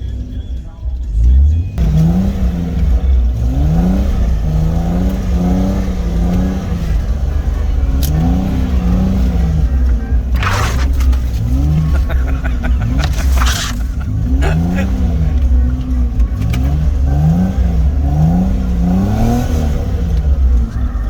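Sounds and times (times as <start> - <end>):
engine revving up and down: 1.1 - 21.0.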